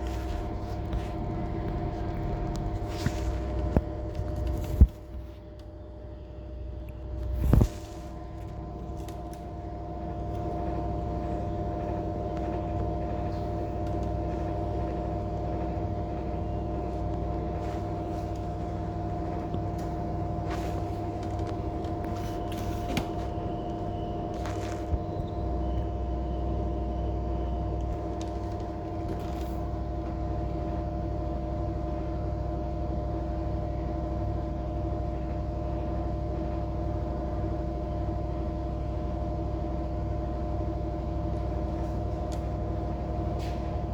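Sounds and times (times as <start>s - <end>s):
air conditioner humming: 0.0s - 43.9s.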